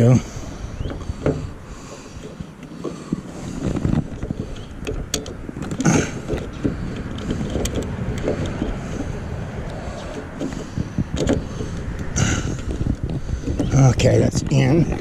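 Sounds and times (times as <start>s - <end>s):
rumbling handling noise: 0.0s - 15.0s.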